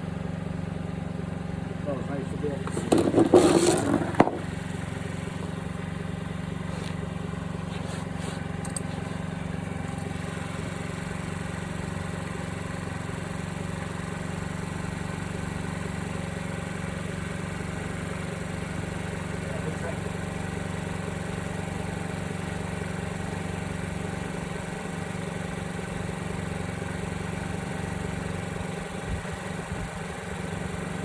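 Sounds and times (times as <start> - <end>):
scooter engine idling: 0.0 - 31.0.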